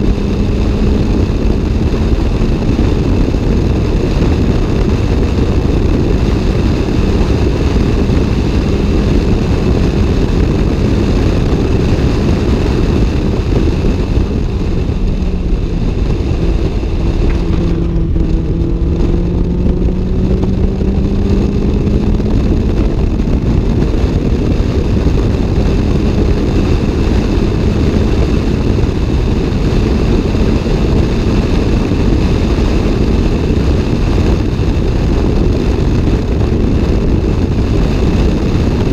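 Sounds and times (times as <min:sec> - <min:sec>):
car engine revving at speed: 0:00.0 - 0:38.9.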